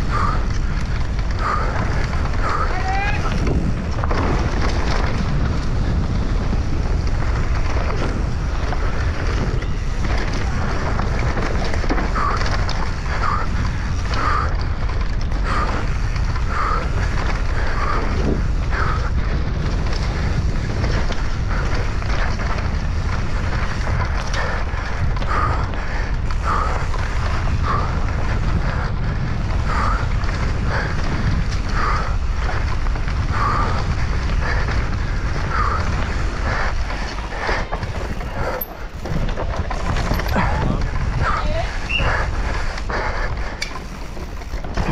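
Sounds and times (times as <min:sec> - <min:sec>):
mountain bike rumble and rattle: 0:00.0 - 0:44.9
wind buffeting microphone: 0:00.0 - 0:44.9.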